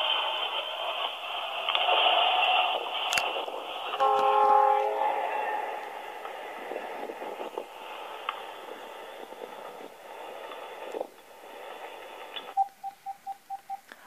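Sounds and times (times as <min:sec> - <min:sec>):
train noise through phone speaker: 0:00.0 - 0:14.0.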